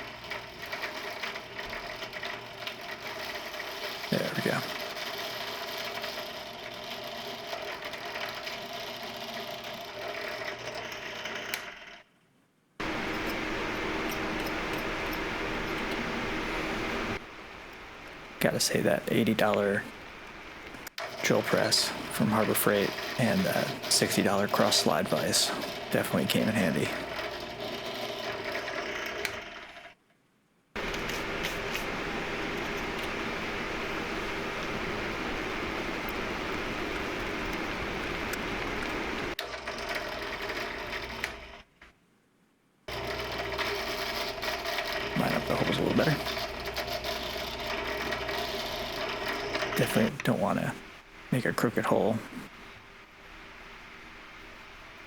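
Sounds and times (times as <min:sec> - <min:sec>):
drill press drilling: 0:00.0 - 0:11.6, 0:12.8 - 0:29.8, 0:30.8 - 0:41.7, 0:42.9 - 0:51.3.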